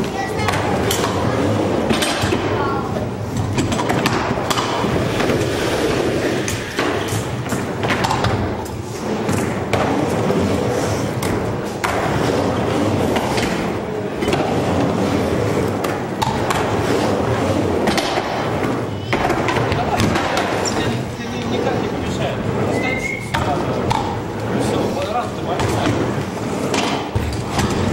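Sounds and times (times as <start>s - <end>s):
wheels rolling on wooden ramp: 0.0s - 27.9s.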